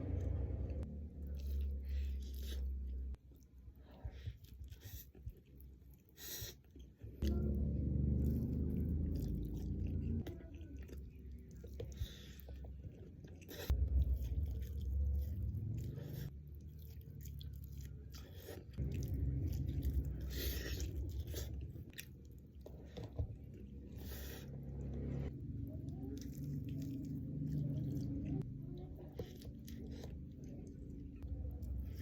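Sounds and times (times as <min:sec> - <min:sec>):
chewing food: 0:00.0 - 0:32.0.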